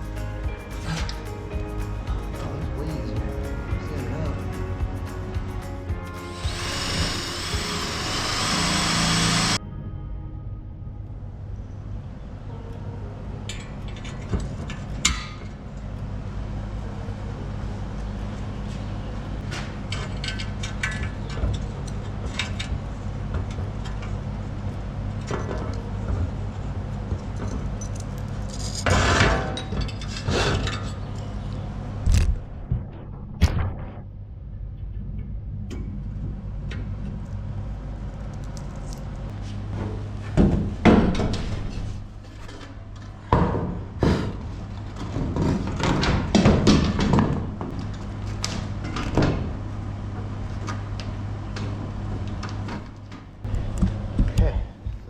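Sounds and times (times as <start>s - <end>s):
low hum: 0.0s - 28.8s, 29.8s - 45.9s.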